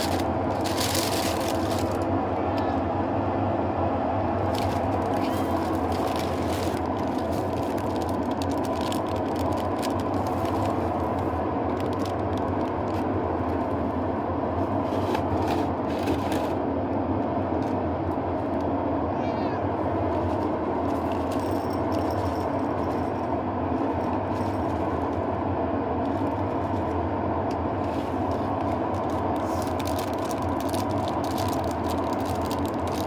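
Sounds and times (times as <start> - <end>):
washing machine humming: 0.0 - 33.0.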